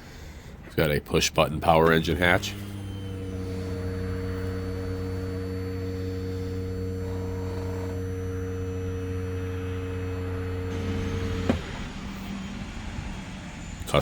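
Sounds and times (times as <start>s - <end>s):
electric lift motor humming: 0.0s - 14.0s.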